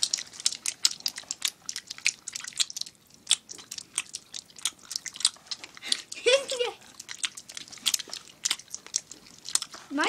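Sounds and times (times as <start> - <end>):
people smacking chewing gum: 0.0 - 10.0.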